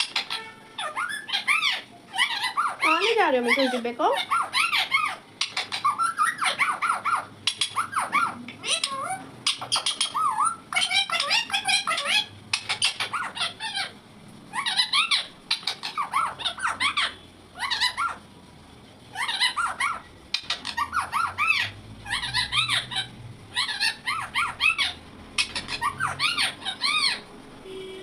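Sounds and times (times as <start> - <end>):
parrot chattering: 0.0 - 18.4, 19.0 - 27.3.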